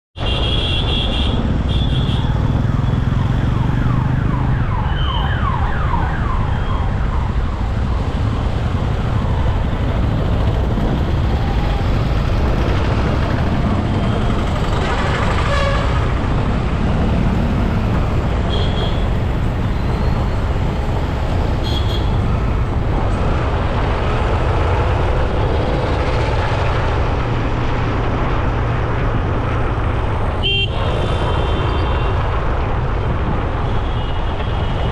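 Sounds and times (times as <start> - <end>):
traffic rumble: 0.2 - 34.9.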